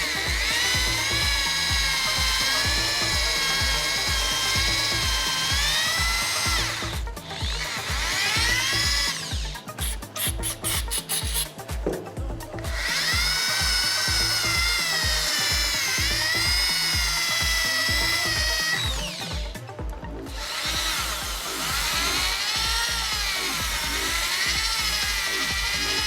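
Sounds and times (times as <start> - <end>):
background music with beat: 0.0 - 26.0
rotary power tool whining: 0.0 - 26.0.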